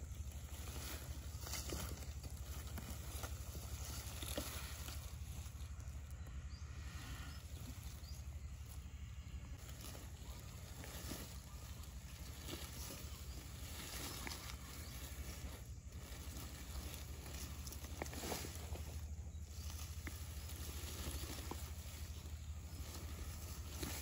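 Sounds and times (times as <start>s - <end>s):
faint clicks and rustles: 0.0s - 24.0s
steady low rumble: 0.0s - 24.0s.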